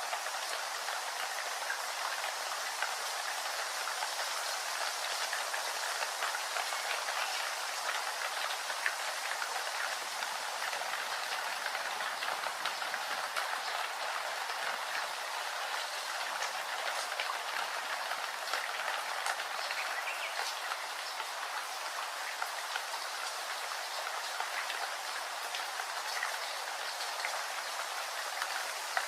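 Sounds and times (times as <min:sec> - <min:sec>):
raindrops ticking: 0:00.0 - 0:29.0
steady rain hiss: 0:00.0 - 0:29.0.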